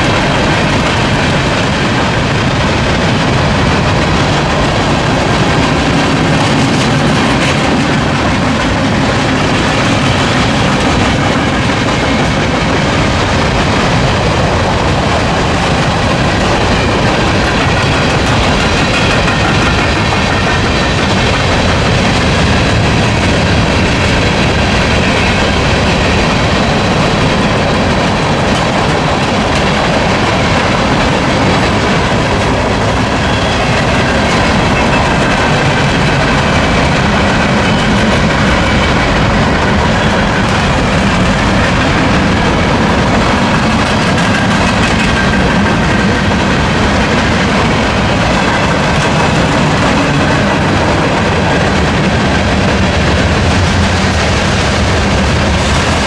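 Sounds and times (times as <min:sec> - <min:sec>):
freight train cars rolling: 0:00.0 - 0:56.0.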